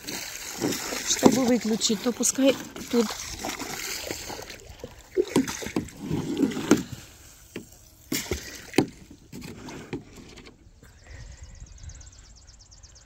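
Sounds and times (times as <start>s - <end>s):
water splashing in plastic pool: 0.0s - 10.6s.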